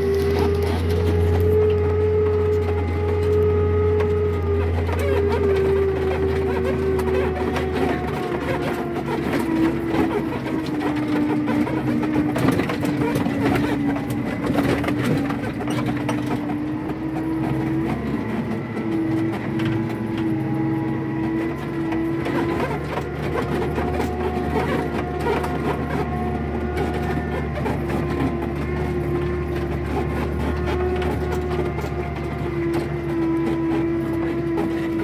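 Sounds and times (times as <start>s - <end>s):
held whine: 0.0s - 35.0s
tractor engine drone: 0.0s - 35.0s.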